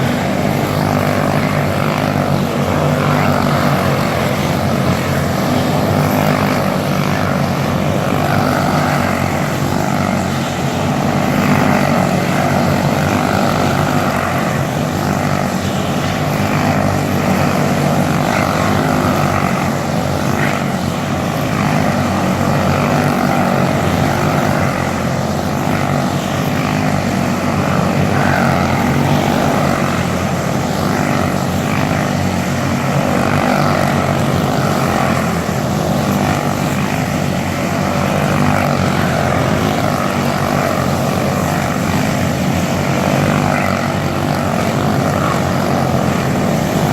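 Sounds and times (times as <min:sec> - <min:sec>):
loud engine noise: 0:00.0 - 0:46.9.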